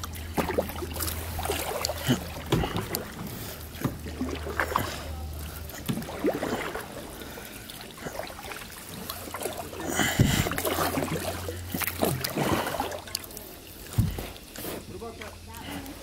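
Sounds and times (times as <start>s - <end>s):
paddle splashing: 0.0s - 16.0s
water dripping and trickling: 0.0s - 16.0s.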